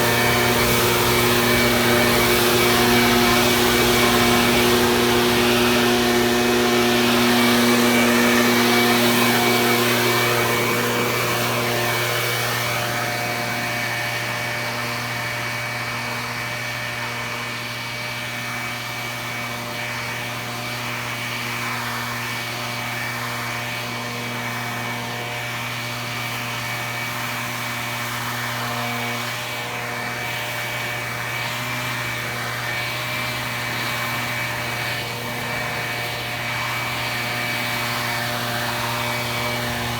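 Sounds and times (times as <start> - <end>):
small motor humming: 0.0 - 39.9.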